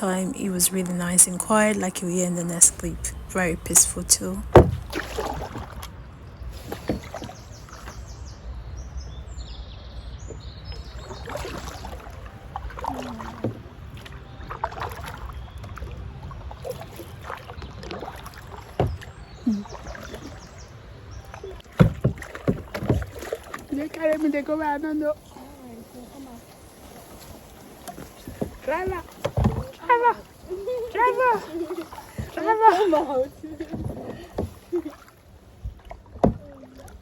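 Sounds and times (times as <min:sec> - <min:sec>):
paddles splashing in water: 0:00.0 - 0:37.0.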